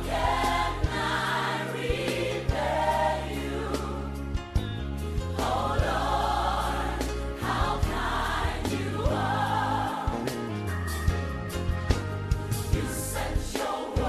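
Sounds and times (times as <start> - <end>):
choir singing gospel: 0.0 - 4.6, 5.2 - 11.0, 12.5 - 14.0
bass line: 0.0 - 13.6.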